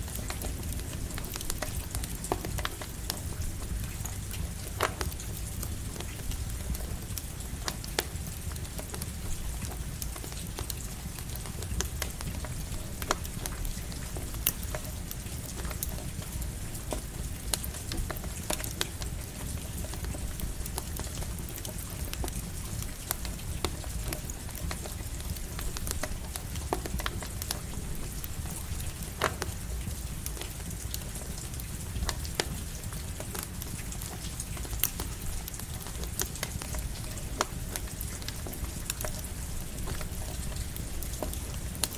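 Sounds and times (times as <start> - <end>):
campfire crackling and popping: 0.0 - 41.9
light rain hissing: 0.0 - 41.9.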